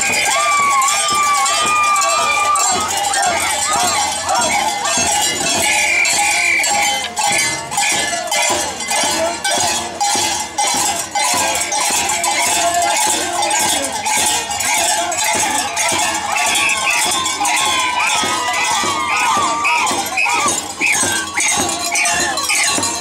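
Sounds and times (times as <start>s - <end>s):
crowd shuffle and chatter: 0.0s - 23.0s
frame drums beating: 0.0s - 23.0s.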